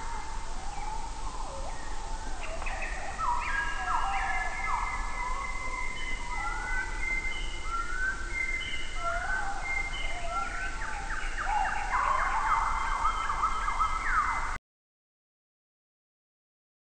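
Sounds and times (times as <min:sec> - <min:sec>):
birds calling: 0:00.0 - 0:14.6.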